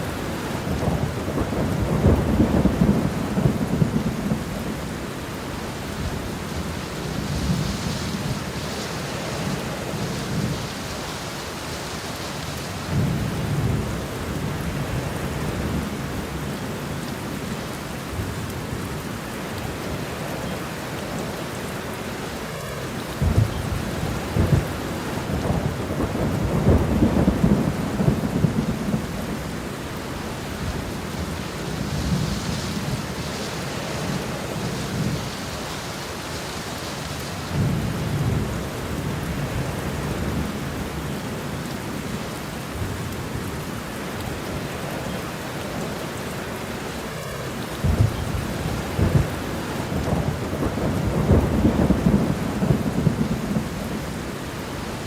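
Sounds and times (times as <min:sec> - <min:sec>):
thunder rumbling: 0:00.0 - 0:17.0, 0:22.8 - 0:43.6, 0:46.9 - 0:55.0
steady rain: 0:00.0 - 0:55.0.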